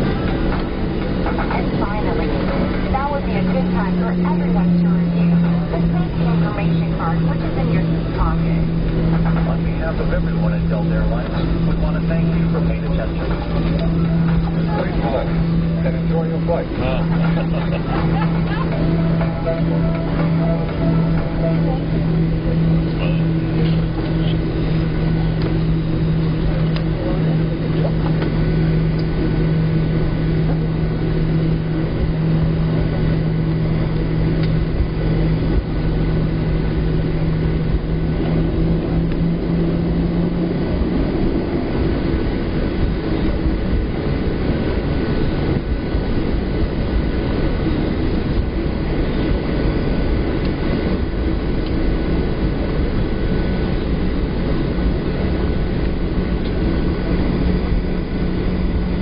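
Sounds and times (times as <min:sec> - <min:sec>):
higher hum: 0:00.0 - 0:59.0
jet engines idling: 0:00.0 - 0:59.0
low steady hum: 0:00.0 - 0:59.0.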